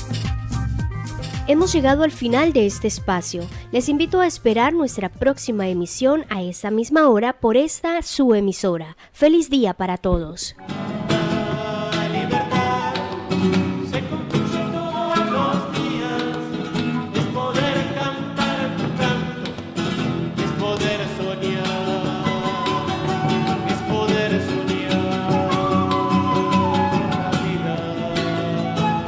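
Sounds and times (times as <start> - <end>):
latin music with plucked guitar: 0.0 - 7.2, 10.2 - 29.0.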